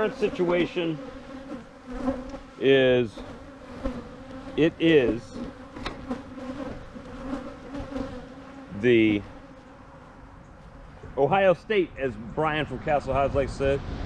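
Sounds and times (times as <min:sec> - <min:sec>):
bees buzzing: 0:00.0 - 0:12.7.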